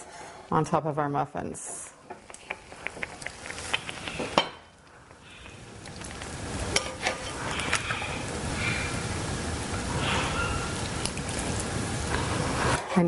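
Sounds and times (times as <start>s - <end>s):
sizzling hiss in a pan: 2.3s - 12.8s.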